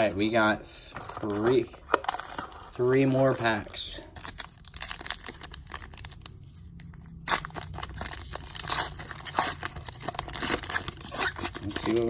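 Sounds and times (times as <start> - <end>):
wrapper crinkling and tearing: 1.1 - 12.0.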